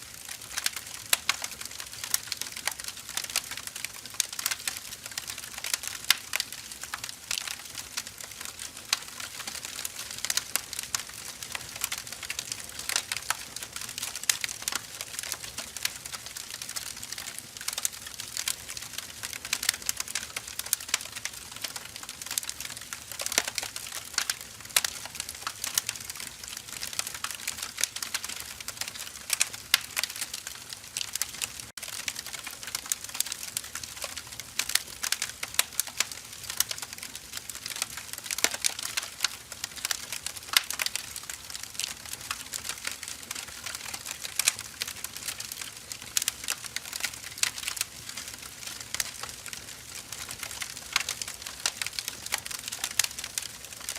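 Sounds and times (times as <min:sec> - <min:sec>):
fire crackling and snapping: 0:00.0 - 0:53.9.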